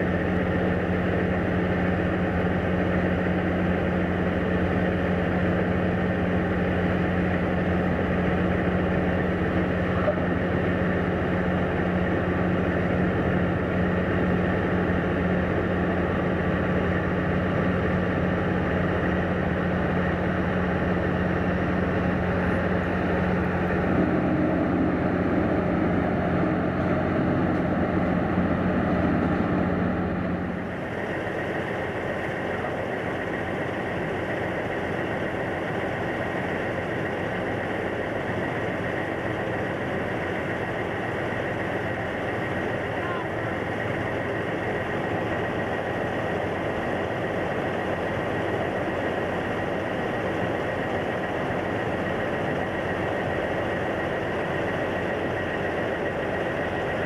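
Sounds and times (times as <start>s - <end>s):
diesel truck engines idling: 0.0s - 57.0s.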